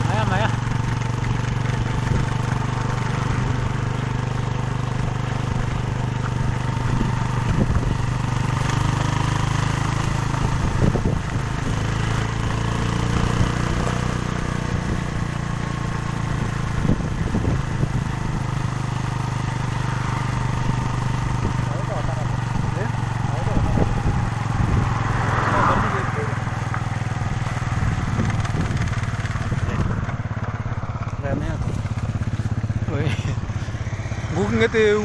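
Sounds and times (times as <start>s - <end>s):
motor vehicle engine humming: 0.0s - 35.0s.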